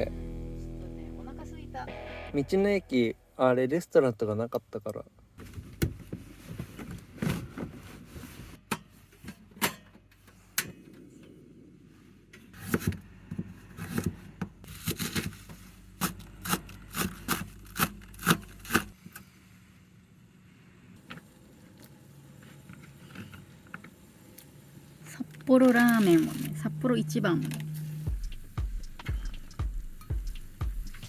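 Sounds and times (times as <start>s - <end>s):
low steady hum: 0.0s - 4.0s, 10.1s - 31.0s.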